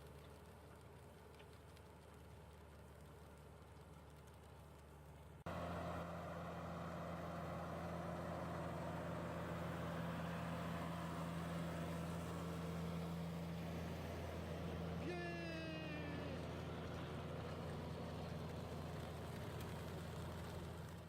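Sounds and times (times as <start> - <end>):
tractor engine running: 2.9 - 21.0.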